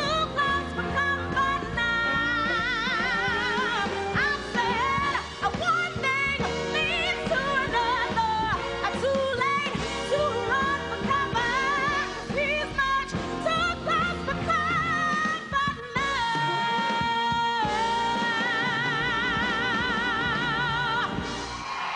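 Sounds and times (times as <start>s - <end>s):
woman singing: 0.0s - 21.4s
band accompaniment: 0.0s - 21.9s.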